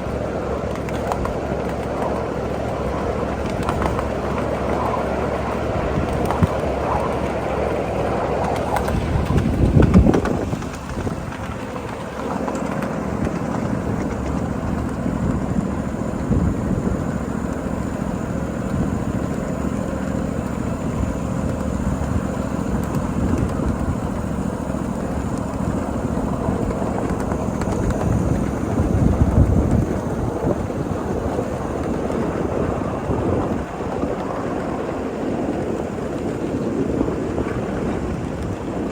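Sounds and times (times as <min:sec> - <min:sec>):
miniature train rumbling on track: 0:00.0 - 0:38.9.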